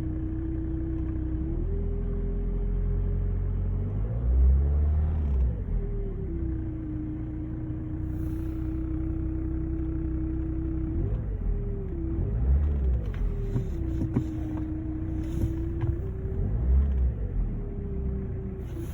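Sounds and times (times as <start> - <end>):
diesel engine droning hum: 0.0 - 18.9.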